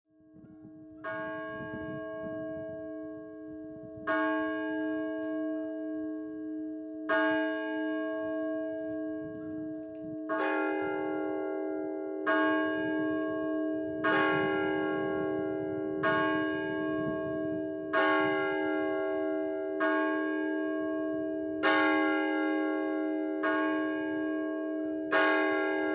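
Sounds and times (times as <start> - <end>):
church bell strokes: 0.2 - 25.9.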